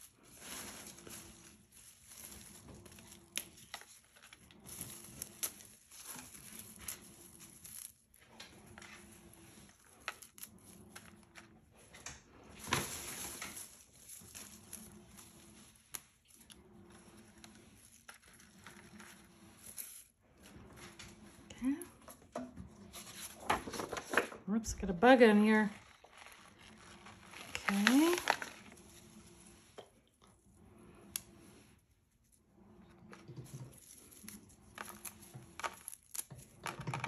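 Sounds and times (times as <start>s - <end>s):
leaves and petals rustling: 0.0s - 22.1s, 22.8s - 29.8s, 33.1s - 37.0s.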